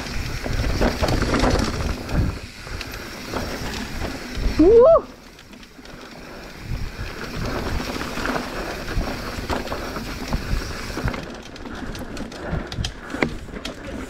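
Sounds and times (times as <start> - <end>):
bike knocks and rattles: 0.0 - 14.0
bike tyres rumbling on dirt: 0.0 - 14.0.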